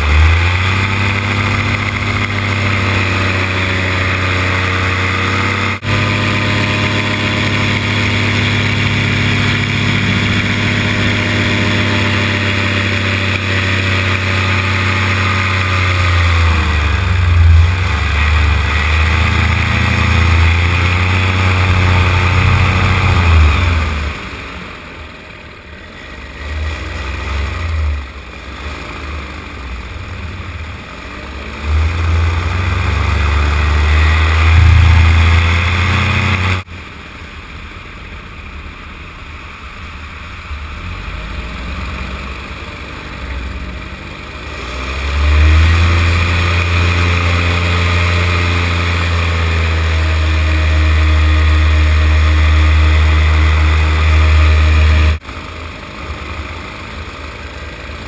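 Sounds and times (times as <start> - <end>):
paramotor engine and propeller: 0.0 - 58.0.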